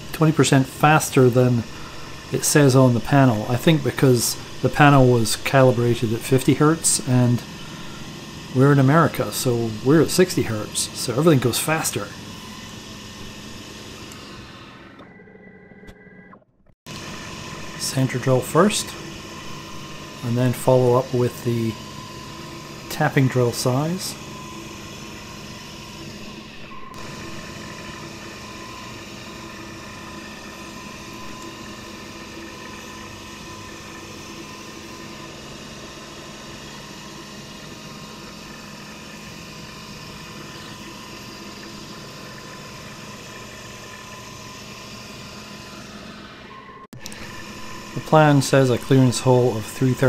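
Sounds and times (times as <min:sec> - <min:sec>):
milling spindle humming and whining: 0:00.0 - 0:50.0.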